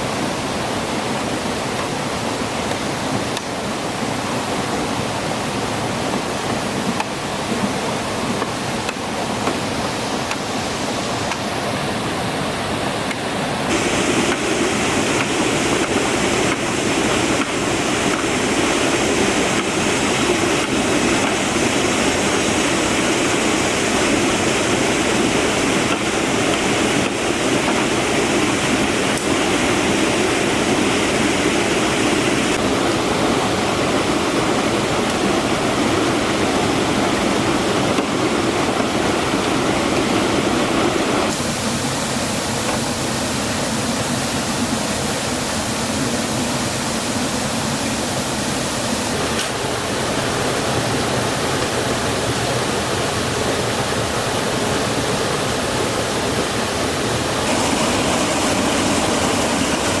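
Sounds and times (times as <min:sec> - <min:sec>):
stream water rushing over rocks: 0:00.0 - 1:00.0.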